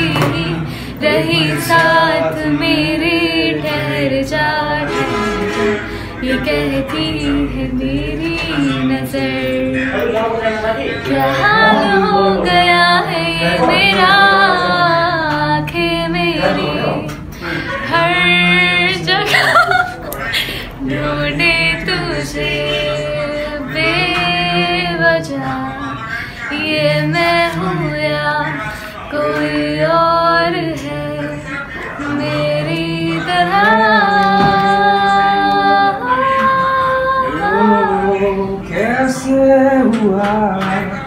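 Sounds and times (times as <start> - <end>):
woman singing: 0.0 - 10.1, 11.0 - 38.6.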